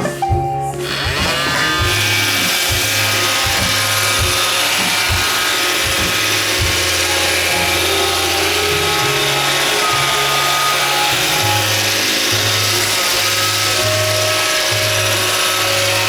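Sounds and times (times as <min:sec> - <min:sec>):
robot vacuum whining: 0:00.0 - 0:16.0.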